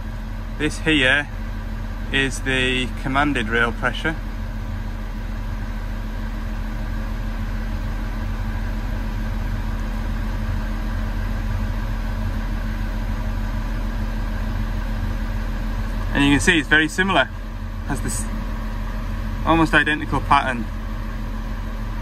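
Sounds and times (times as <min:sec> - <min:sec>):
excavator diesel engine idling: 0:00.0 - 0:22.0.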